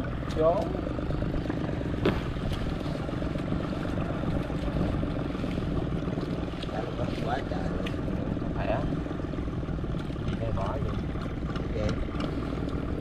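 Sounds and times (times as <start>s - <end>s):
small boat engine humming: 0.0s - 13.0s.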